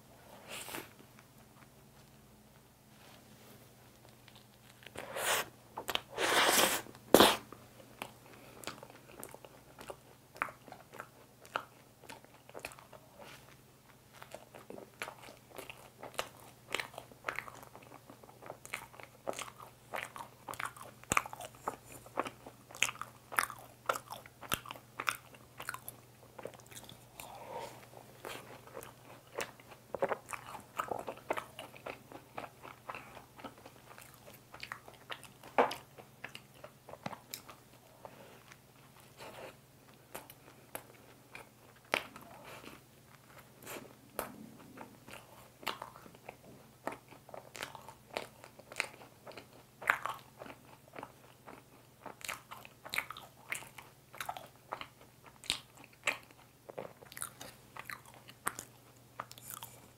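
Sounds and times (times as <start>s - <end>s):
chewing with small clicks: 3.9s - 4.9s, 7.8s - 59.9s.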